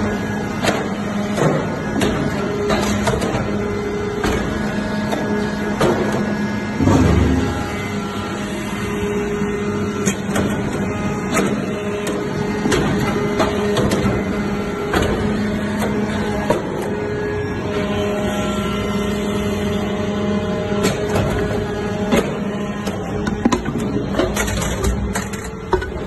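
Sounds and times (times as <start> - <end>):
hydraulic power unit hum: 0.0 - 26.0.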